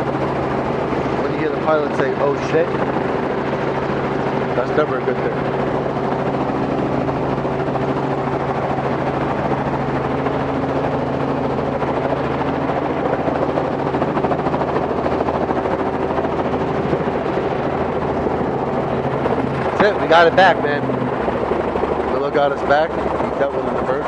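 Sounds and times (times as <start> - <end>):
helicopter engine drone: 0.0 - 24.0
helicopter rotor chop: 0.0 - 24.0.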